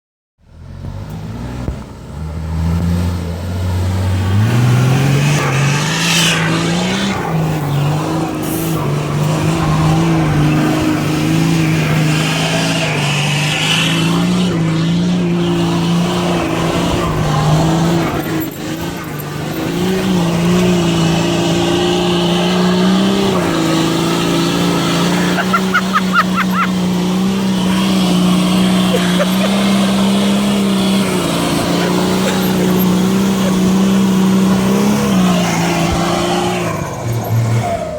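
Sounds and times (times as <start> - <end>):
diesel engine revving: 0.4 - 37.9.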